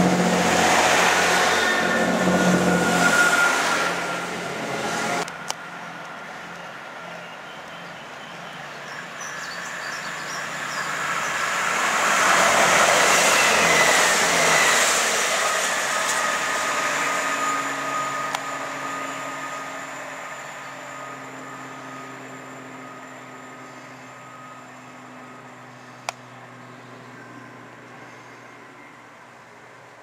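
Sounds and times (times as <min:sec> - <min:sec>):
diesel train passing at speed: 0:00.0 - 0:30.0.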